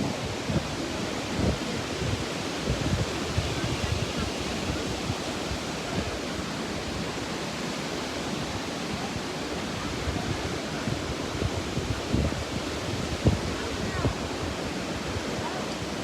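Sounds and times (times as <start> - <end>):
river water rushing: 0.0 - 16.0
wind rumble on microphone: 0.0 - 16.0.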